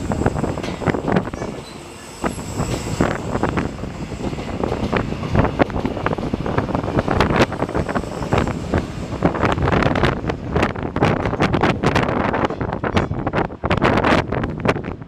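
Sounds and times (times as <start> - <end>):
subway train running: 0.0 - 15.0
wind buffeting microphone: 0.0 - 15.0.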